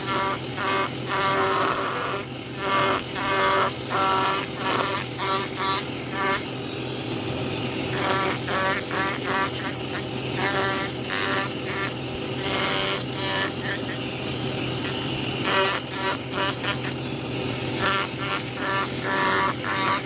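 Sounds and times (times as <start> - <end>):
electric carving tool buzzing: 0.0 - 20.0
motor hum: 0.0 - 20.0
tool cutting into wood: 0.0 - 20.0.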